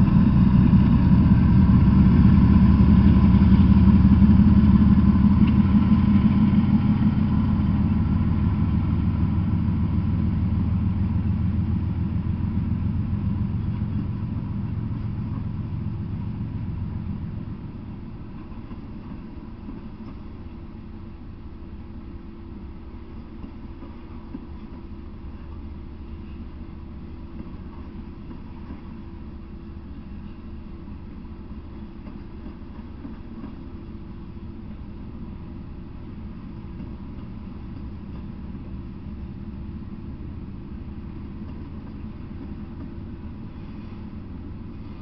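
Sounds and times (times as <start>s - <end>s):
diesel locomotive engine rumble: 0.0s - 45.0s
freight cars rolling past: 0.0s - 45.0s.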